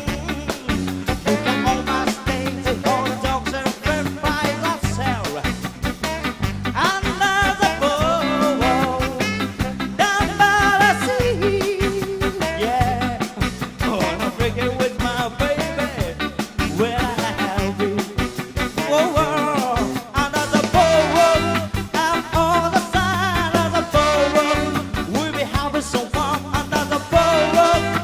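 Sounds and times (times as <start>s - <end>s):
live band playing ska: 0.0s - 28.0s.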